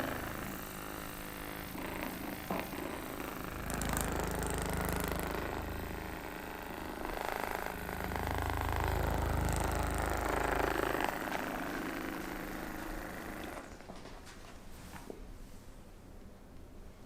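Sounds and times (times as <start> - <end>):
electric massage tool buzzing: 0.0 - 13.9.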